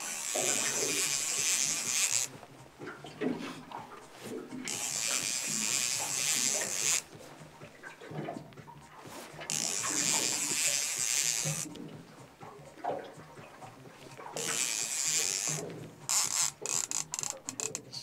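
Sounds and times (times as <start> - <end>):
fishing reel drag buzzing: 0.0 - 8.0, 8.8 - 18.0.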